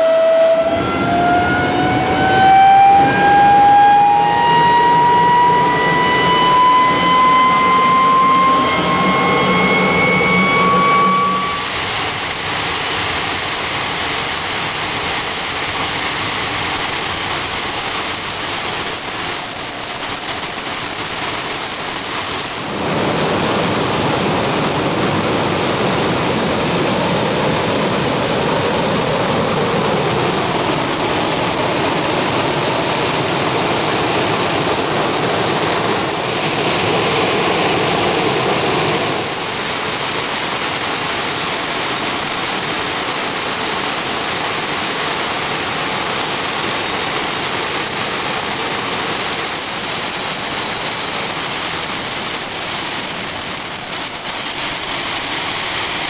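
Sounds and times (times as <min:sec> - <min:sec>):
jet engine high whine: 0:00.0 - 0:56.0
jet engine roar: 0:00.0 - 0:56.0.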